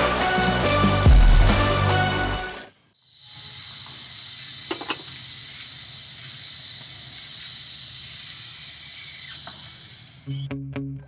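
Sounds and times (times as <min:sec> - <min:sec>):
gas hissing through lines: 0:00.4 - 0:10.5.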